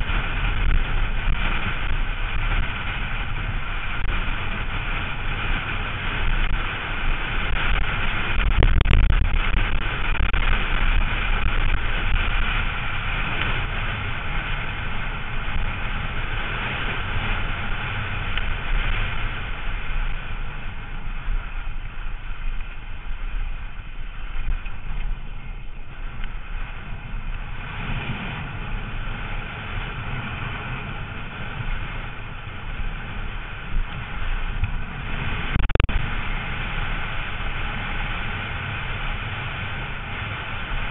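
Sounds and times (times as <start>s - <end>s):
bike tyres rumbling over gravel: 0.0s - 40.9s
wind on microphone: 0.0s - 40.9s.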